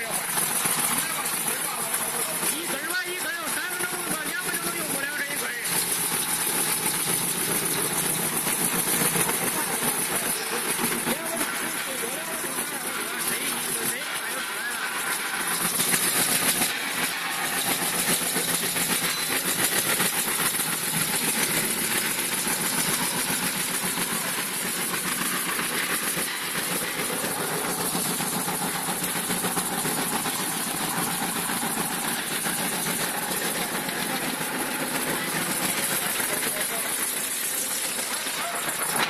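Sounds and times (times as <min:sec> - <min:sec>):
wood shaving machine running: 0:00.0 - 0:39.0.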